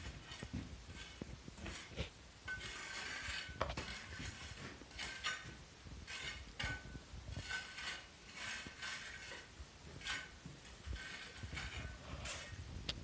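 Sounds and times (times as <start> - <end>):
metal tool scraping stone mortar: 0.0 - 12.6.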